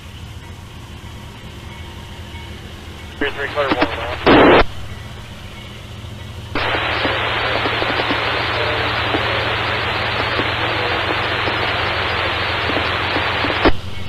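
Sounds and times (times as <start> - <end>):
low steady hum: 0.0 - 14.0
radio static hiss: 2.3 - 14.0.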